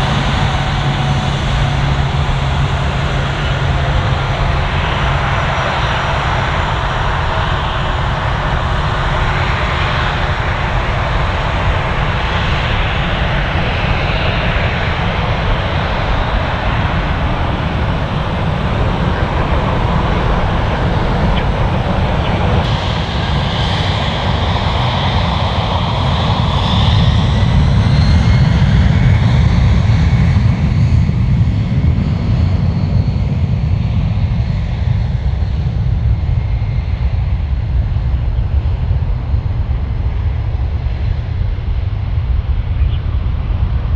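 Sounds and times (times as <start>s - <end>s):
jet engines rumbling with whine: 0.0s - 43.9s.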